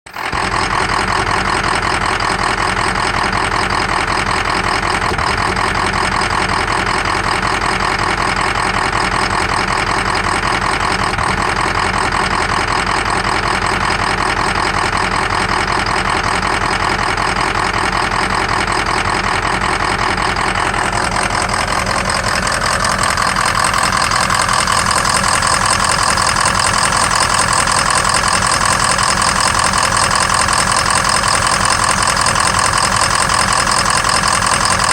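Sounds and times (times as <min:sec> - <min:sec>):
diesel engine idling with misfire: 0:00.0 - 0:34.9.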